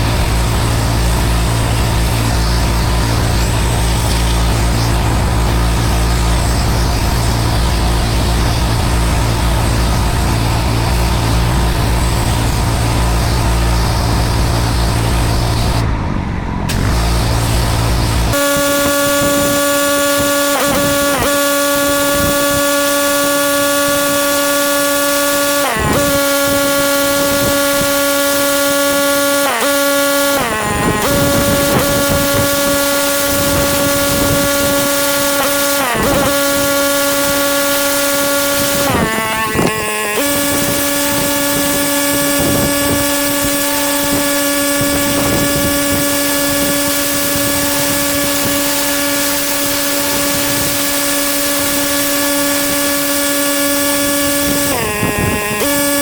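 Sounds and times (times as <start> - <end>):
pressure washer engine running: 0.0 - 56.0.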